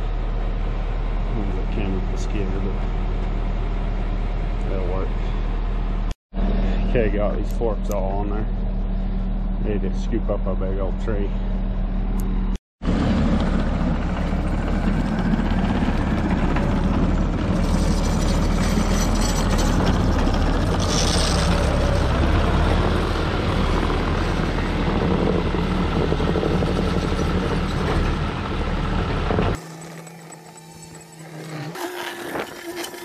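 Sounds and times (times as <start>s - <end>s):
diesel engine running: 0.0s - 31.8s
machine mechanical noise: 5.6s - 33.0s.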